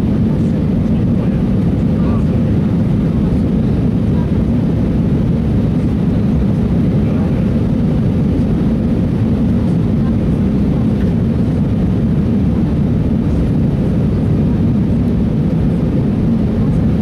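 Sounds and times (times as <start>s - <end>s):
airliner cabin engine drone: 0.0s - 17.0s.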